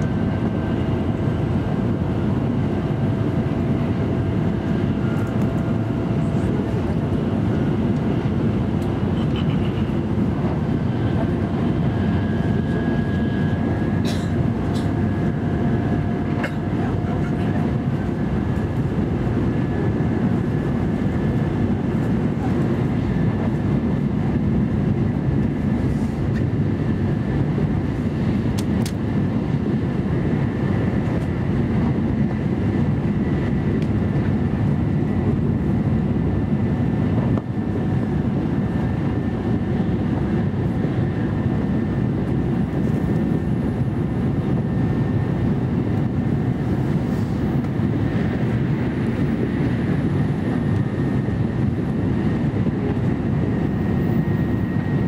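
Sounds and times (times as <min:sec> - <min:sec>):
train cabin running rumble: 0:00.0 - 0:55.0.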